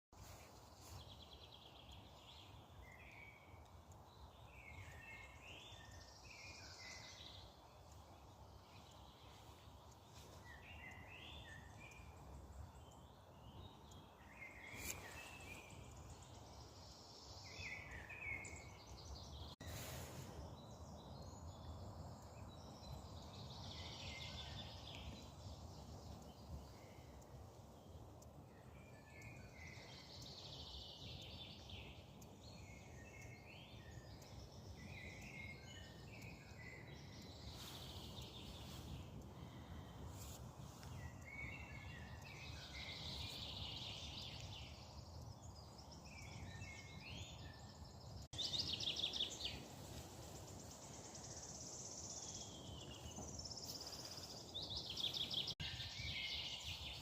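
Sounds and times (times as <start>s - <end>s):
forest birds singing: 0.2s - 57.0s.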